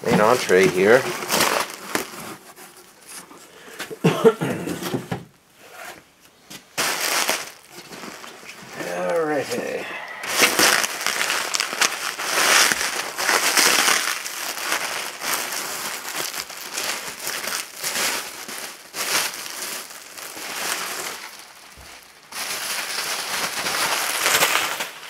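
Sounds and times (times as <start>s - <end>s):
bubble wrap crinkling: 0.0s - 3.7s, 5.6s - 25.0s.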